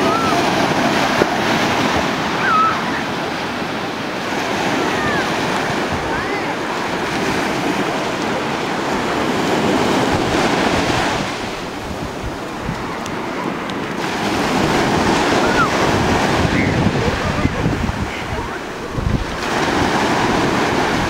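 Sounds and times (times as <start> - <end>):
ocean surf breaking on shore: 0.0 - 21.0.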